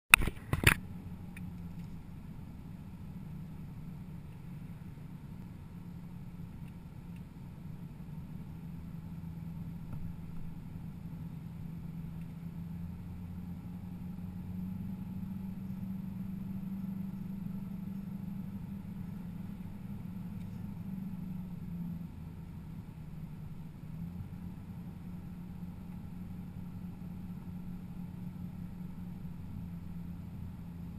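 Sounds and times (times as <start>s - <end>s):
car engine hum from cabin: 0.1s - 30.9s.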